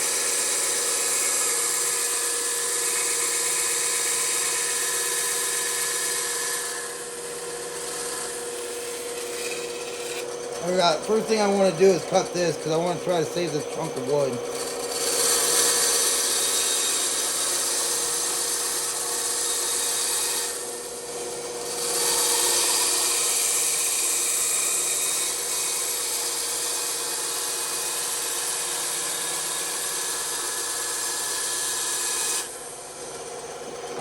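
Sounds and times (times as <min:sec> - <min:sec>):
bandsaw motor hum: 0:00.0 - 0:34.0.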